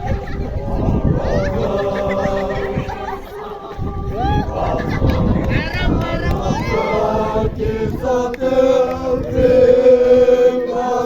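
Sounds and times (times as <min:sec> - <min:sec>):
group of voices chanting: 0:00.0 - 0:11.0.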